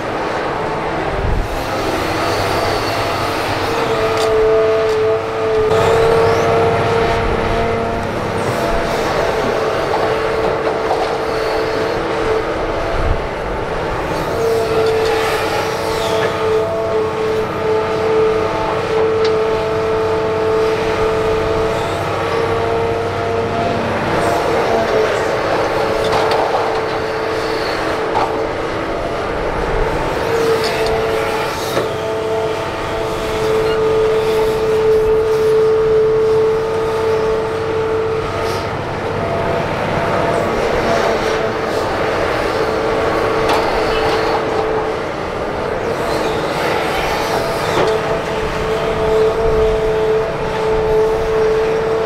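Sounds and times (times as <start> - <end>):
excavator engine whining: 0.0 - 52.0.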